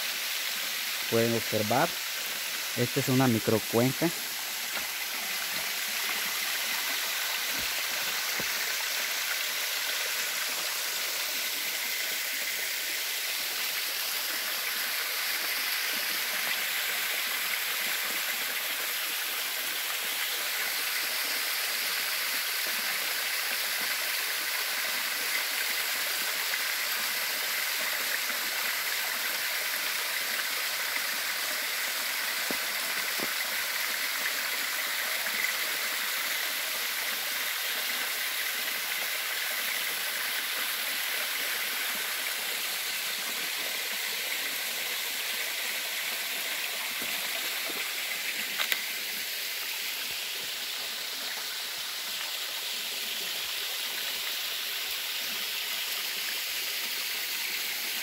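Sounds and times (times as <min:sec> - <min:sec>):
waterfall splashing into pool: 0:00.0 - 0:58.0.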